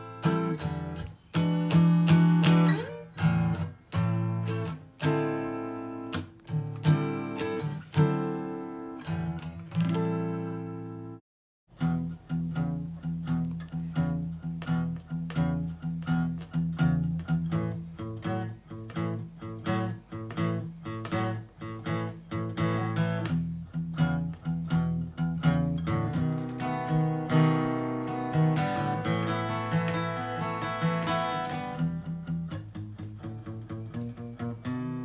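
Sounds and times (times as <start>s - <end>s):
guitar strummed: 0.0s - 35.0s.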